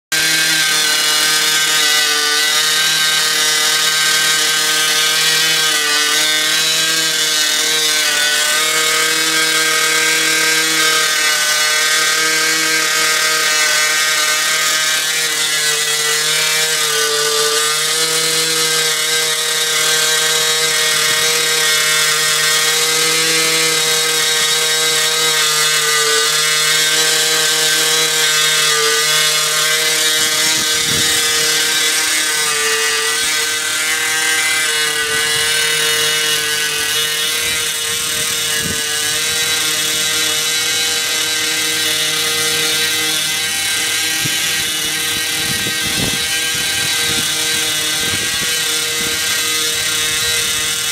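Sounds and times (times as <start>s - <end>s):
small nitro engine buzzing: 0.0s - 50.9s.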